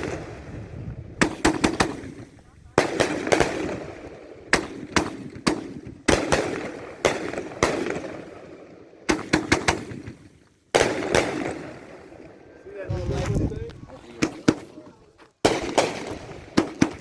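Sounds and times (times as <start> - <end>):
fireworks exploding: 0.0 - 17.0.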